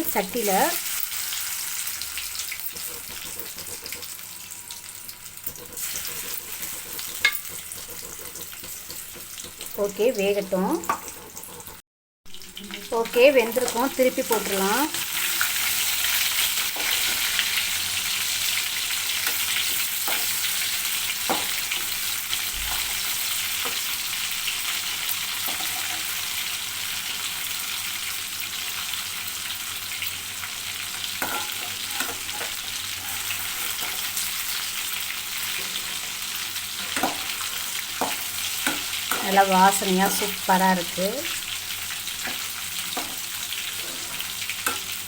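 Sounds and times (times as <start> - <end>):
chicken deep-frying in oil: 0.0 - 45.0.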